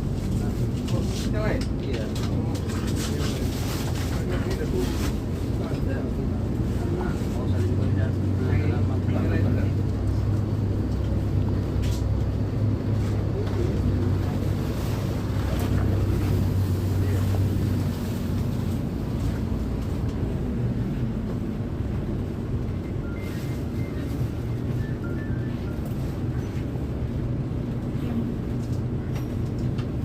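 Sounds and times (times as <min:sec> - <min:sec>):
bus diesel engine rumbling: 0:00.0 - 0:30.0.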